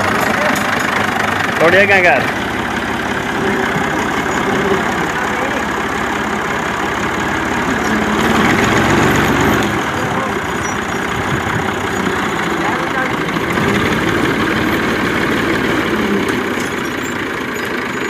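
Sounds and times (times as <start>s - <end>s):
tractor diesel engine idling: 0.0s - 18.0s.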